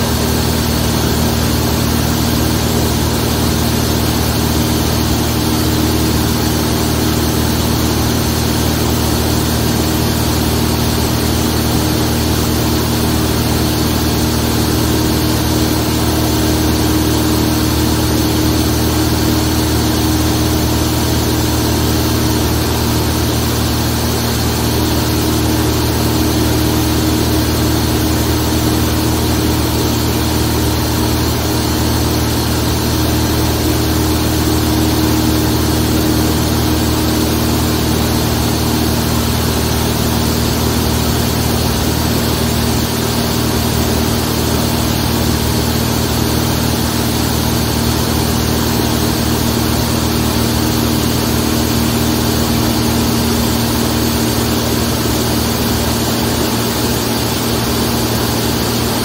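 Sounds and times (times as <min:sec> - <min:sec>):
propeller aircraft engine running: 0:00.0 - 0:59.0.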